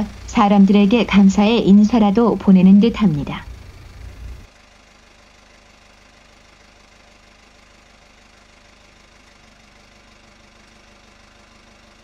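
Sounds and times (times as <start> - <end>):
low pulsing mechanical hum: 0.0 - 12.0.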